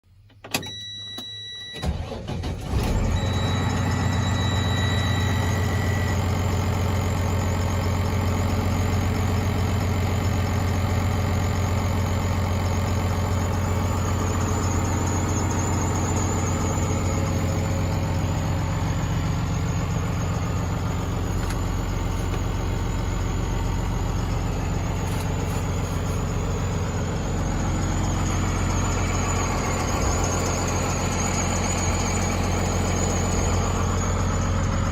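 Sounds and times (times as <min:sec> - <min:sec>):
diesel truck engine idling: 0:01.9 - 0:34.9.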